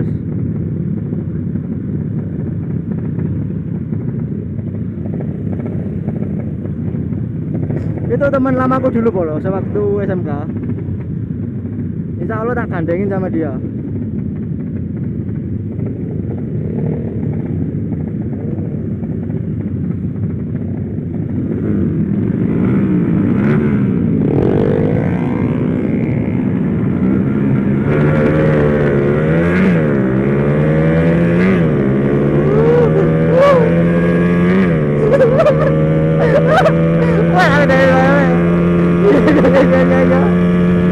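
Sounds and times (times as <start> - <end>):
motorcycle engine revving: 0.8 - 40.9.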